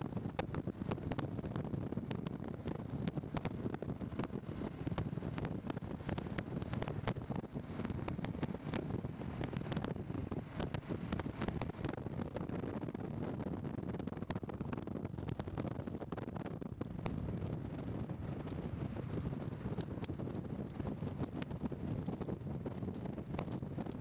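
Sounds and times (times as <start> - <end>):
crackling pops: 0.0 - 24.0
engine and road rumble: 0.0 - 24.0
wind buffeting microphone: 0.0 - 24.0.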